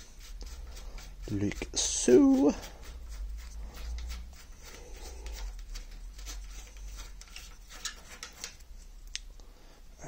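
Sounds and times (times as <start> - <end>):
faint clicks and scrapes: 0.0 - 9.4.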